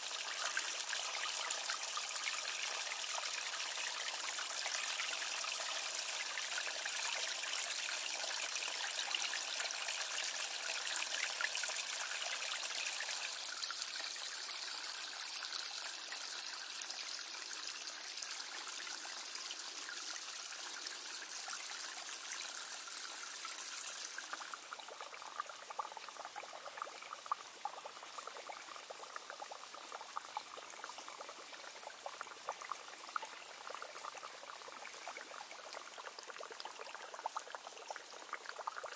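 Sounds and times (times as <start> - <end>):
water drips and splashes: 0.0 - 38.9
water trickling over rocks: 0.0 - 38.9.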